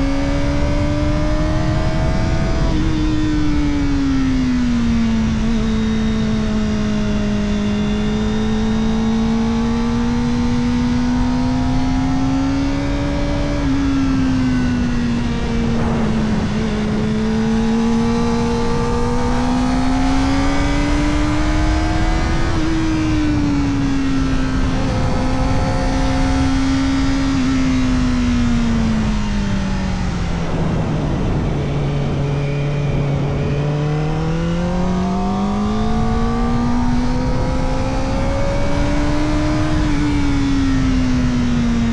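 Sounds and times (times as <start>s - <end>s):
motorcycle engine revving high: 0.0s - 41.9s.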